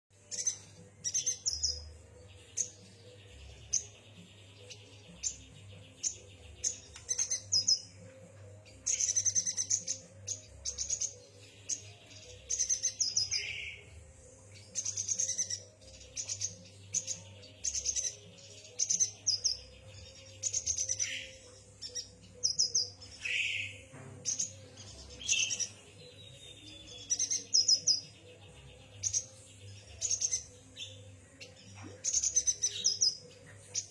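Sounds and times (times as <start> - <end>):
bird chirping: 0.1 - 33.9.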